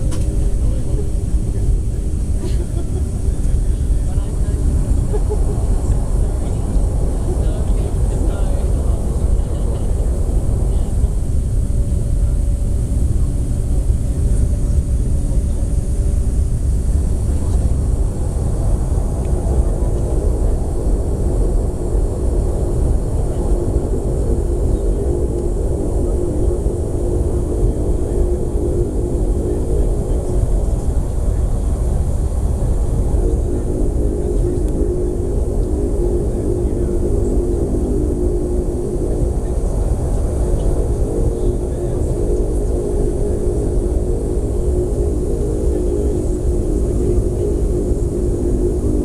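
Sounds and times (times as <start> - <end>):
aircraft engines droning: 0.0 - 49.0.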